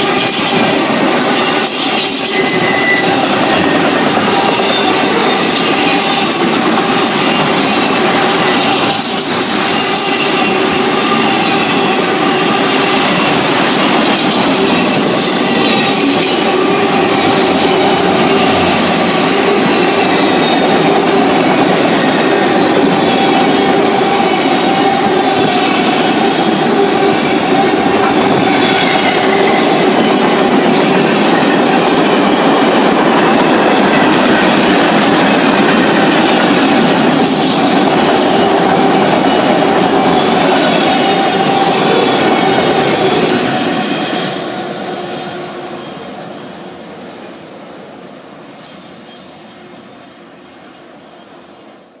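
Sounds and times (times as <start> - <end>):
train wheels on rails: 0.0 - 51.0.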